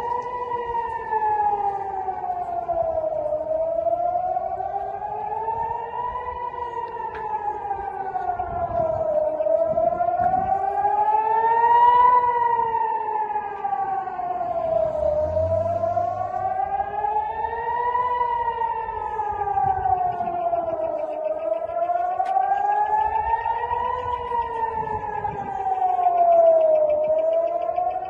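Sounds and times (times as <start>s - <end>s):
air raid siren wailing: 0.0s - 28.0s.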